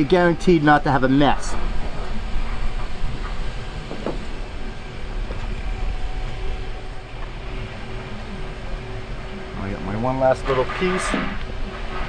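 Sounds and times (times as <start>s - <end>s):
faint hum: 0.0s - 12.0s
low rumbling background noise: 0.0s - 12.0s.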